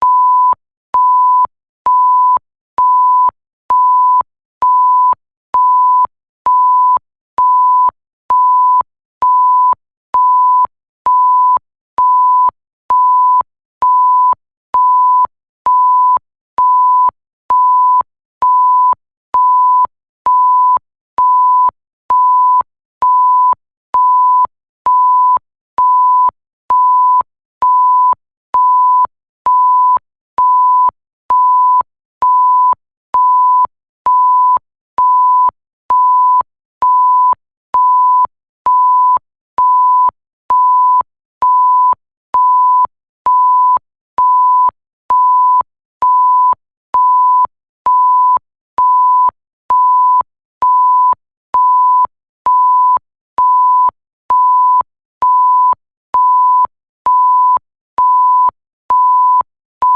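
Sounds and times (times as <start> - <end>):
censor bleep tone: 0.0 - 59.9.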